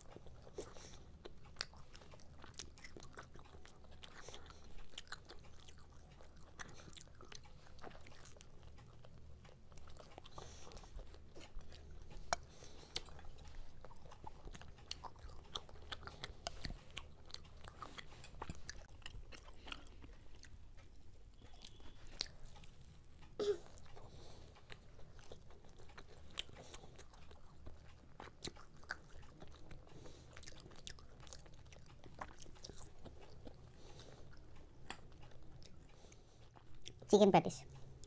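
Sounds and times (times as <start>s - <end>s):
people chewing crunchy food: 0.0s - 38.0s.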